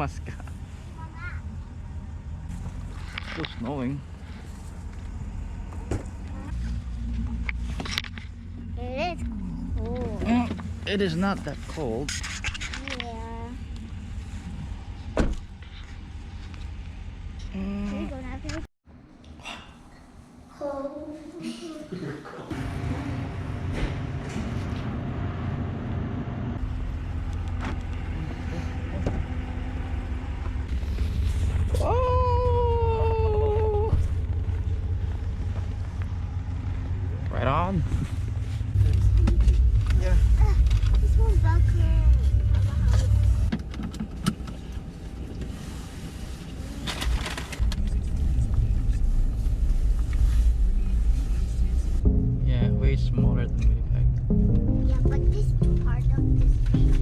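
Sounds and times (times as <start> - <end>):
engine and tyres rumbling: 0.0 - 18.7, 22.5 - 57.0.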